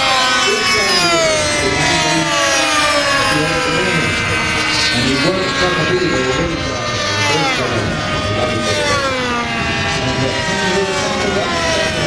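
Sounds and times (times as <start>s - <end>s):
model plane engine droning: 0.0s - 12.0s.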